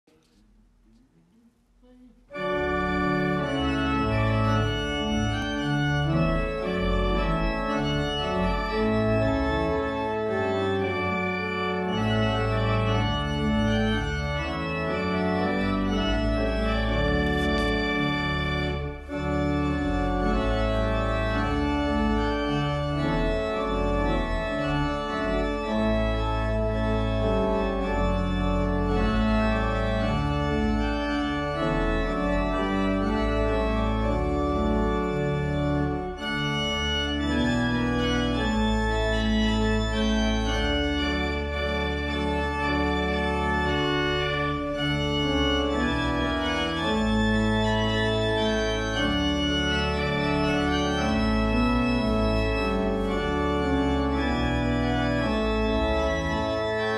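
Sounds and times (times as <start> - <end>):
organ playing sustained chords: 2.3 - 56.9.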